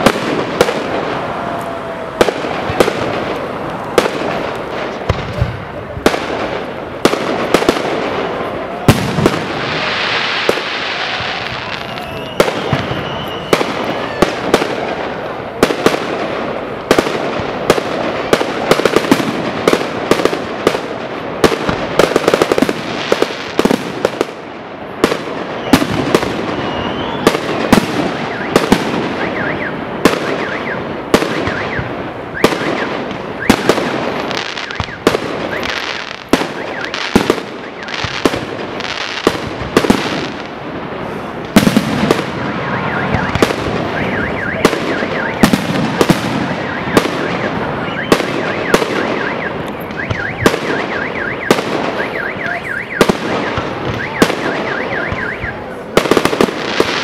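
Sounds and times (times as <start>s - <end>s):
fireworks bangs: 0.0s - 57.0s
fireworks crackle and hiss: 0.0s - 57.0s.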